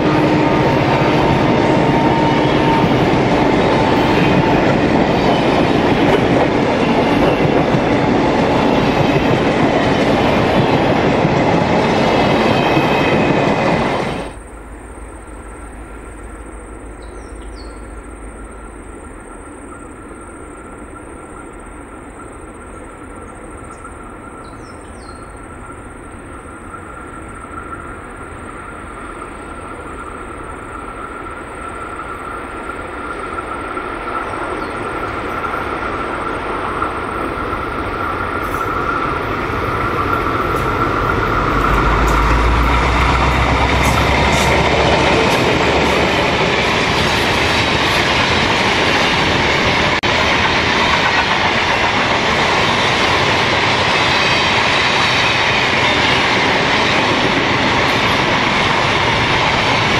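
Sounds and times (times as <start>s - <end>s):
distant freight train approaching: 0.0s - 59.9s
steel wheels clattering on rail: 0.0s - 59.9s.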